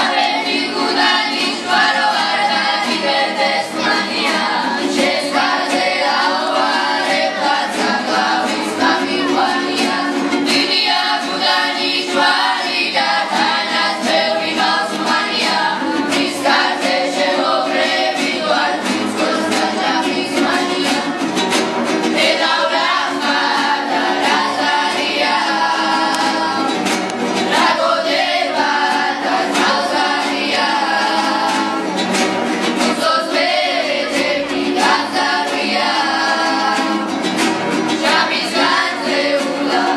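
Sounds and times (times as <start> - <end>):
children singing: 0.0 - 39.9
lute playing: 0.0 - 39.9
strummed acoustic guitars: 0.0 - 39.9.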